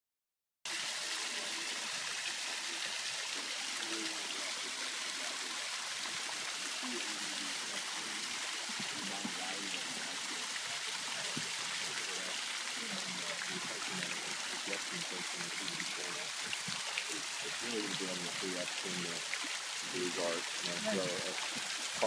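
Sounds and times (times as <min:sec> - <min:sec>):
waterfall splashing into pond: 0:00.7 - 0:22.0.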